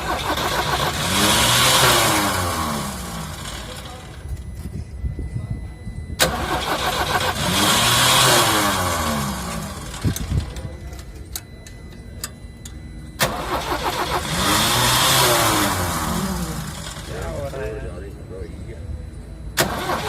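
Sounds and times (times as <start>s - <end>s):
diesel engine cranking on starter: 0.0s - 4.5s, 6.2s - 17.4s, 19.5s - 20.0s.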